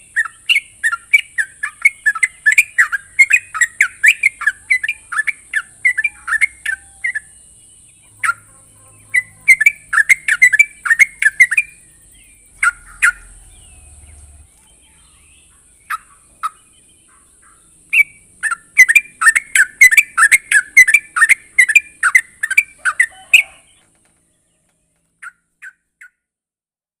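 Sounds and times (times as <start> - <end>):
bird chattering song: 0.0 - 26.2.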